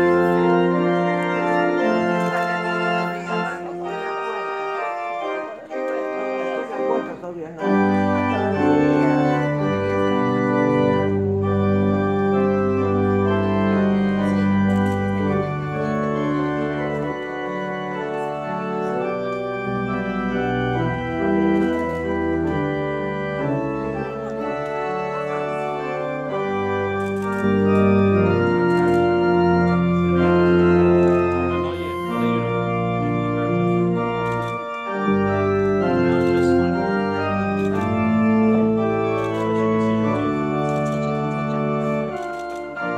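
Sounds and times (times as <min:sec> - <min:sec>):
church organ playing chords: 0:00.0 - 0:42.9.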